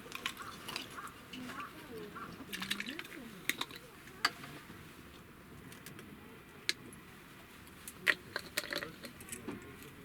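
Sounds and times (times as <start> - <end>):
faint background noise: 0.0 - 10.0.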